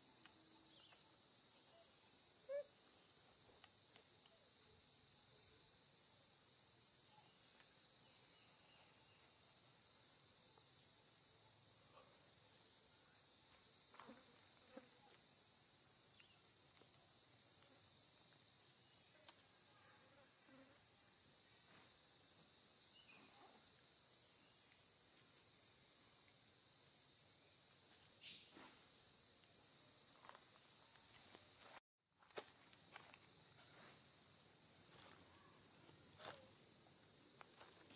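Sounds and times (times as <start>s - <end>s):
high-pitched insect chorus: 0.0s - 37.9s.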